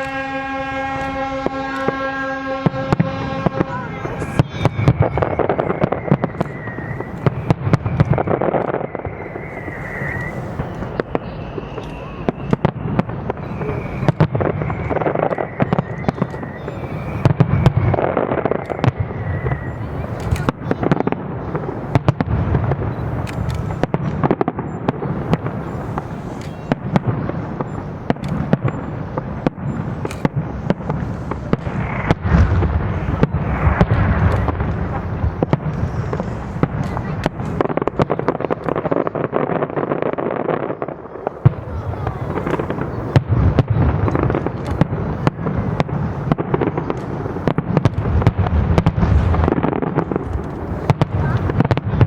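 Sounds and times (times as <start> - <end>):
fireworks bangs and crackling: 0.0 - 52.0
fireworks whistling: 0.0 - 52.0.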